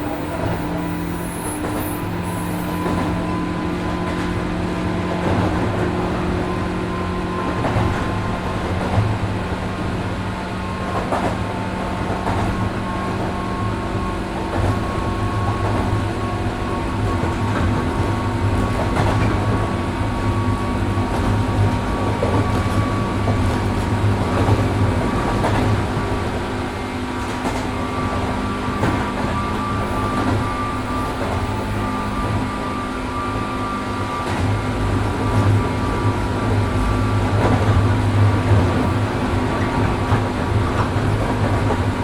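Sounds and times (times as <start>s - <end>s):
rail and wheel noise: 0.0s - 42.0s
train motor hum and whine: 0.0s - 42.0s.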